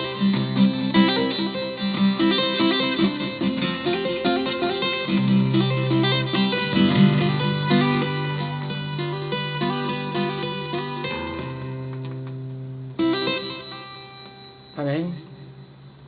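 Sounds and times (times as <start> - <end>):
solo acoustic guitar plucking: 0.0 - 16.0.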